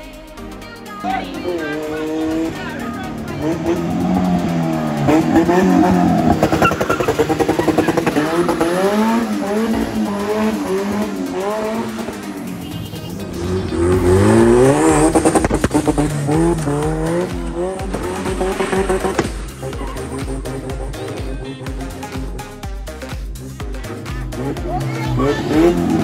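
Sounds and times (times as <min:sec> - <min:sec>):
car engine revving hard: 0:01.3 - 0:26.0.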